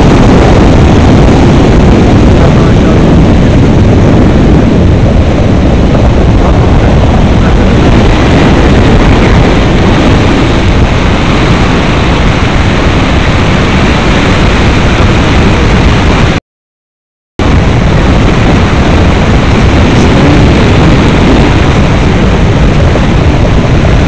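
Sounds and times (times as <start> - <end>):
wind roaring over microphone: 0.0 - 16.4, 17.4 - 24.0.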